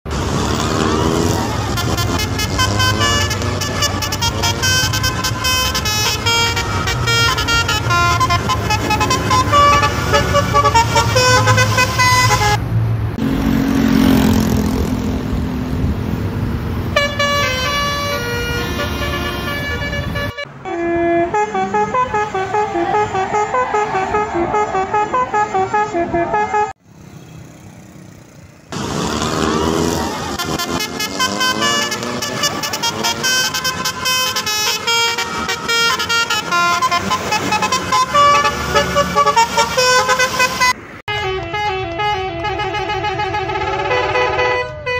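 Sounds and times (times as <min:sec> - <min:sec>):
bus engine rumble: 0:00.0 - 0:44.9
passing vehicles: 0:00.0 - 0:44.9
musical bus horns playing tunes: 0:00.2 - 0:12.6, 0:16.8 - 0:26.8, 0:28.9 - 0:44.9.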